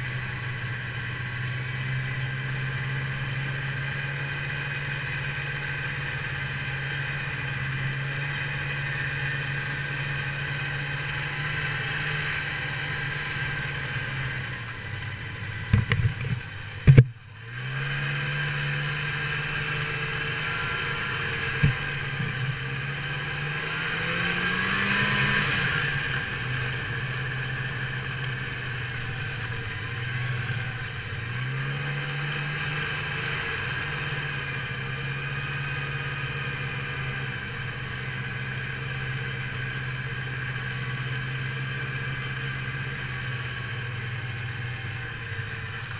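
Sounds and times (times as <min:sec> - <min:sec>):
snowmobile engine running: 0:00.0 - 0:45.9.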